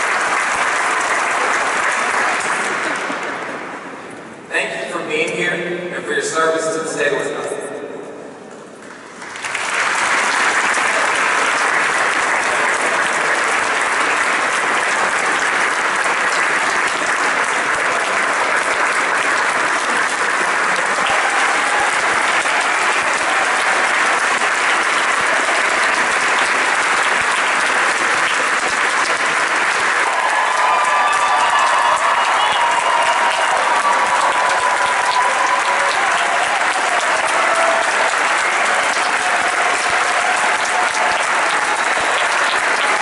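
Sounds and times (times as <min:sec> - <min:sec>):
large audience applauding: 0:00.0 - 0:04.5, 0:08.8 - 0:43.0.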